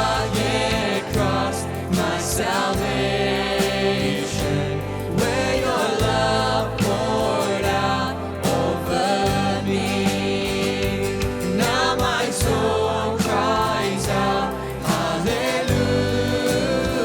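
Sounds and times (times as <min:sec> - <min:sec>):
sustained instrumental accompaniment: 0:00.0 - 0:17.0
voices singing slow hymn: 0:00.0 - 0:17.0.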